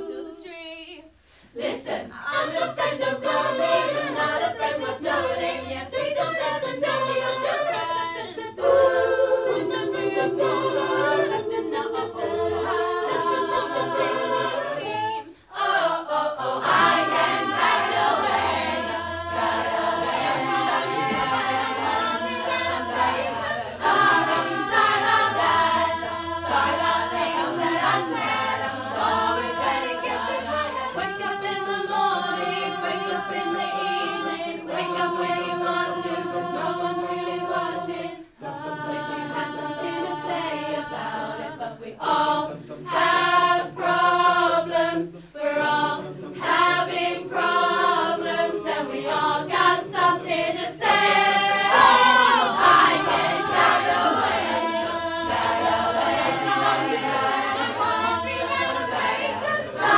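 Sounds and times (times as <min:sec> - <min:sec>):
a cappella group singing: 0:00.0 - 0:59.9.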